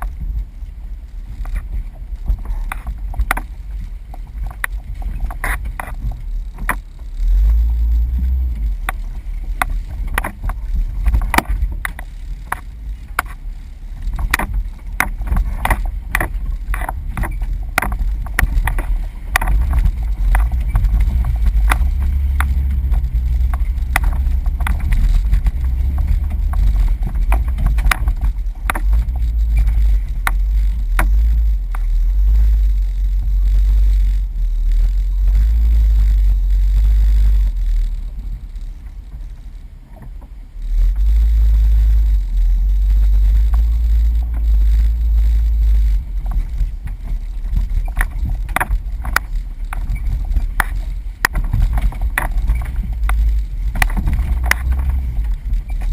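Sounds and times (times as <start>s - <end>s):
vehicle rumbling on rough trail: 0.0s - 55.9s.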